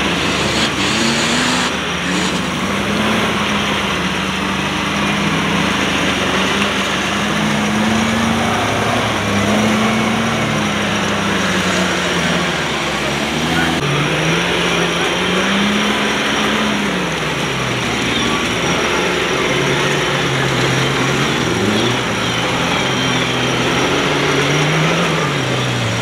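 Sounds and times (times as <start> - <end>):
motorcycle engine working hard: 0.0 - 26.0.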